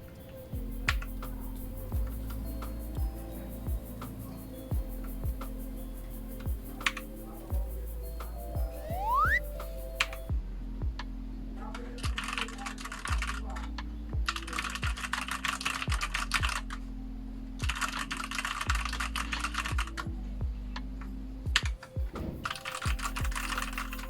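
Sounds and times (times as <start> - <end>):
background music with steady beat: 0.0 - 24.0.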